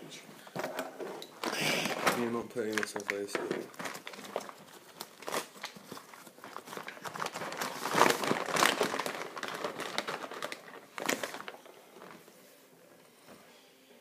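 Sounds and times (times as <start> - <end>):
food packaging crinkling: 0.7 - 12.3.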